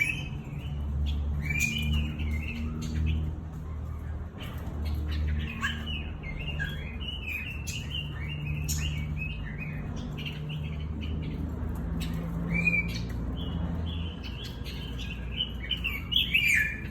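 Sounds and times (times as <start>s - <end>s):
bird singing chirping phrases: 0.0s - 16.9s.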